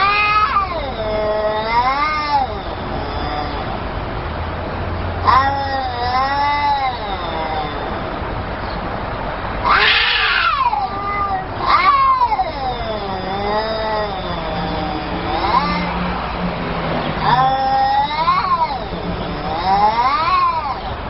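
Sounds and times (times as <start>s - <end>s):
cats yowling: 0.0s - 4.6s, 5.2s - 8.7s, 9.3s - 21.0s.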